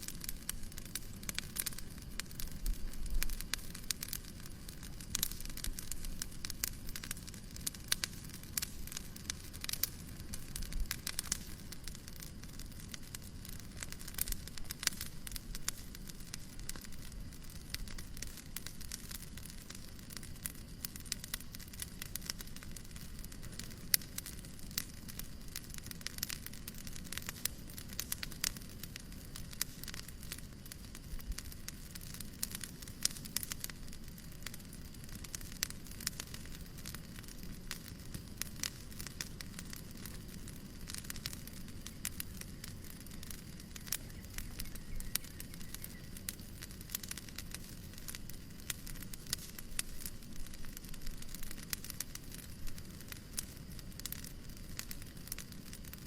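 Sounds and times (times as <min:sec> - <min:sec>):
soft steady hiss: 0:00.0 - 0:56.0
wood fire crackling: 0:00.0 - 0:56.0.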